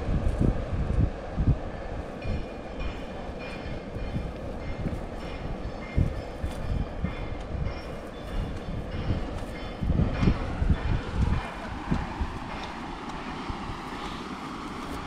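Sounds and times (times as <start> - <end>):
outdoor rumble: 0.0 - 15.0
wind buffeting microphone: 0.0 - 15.0.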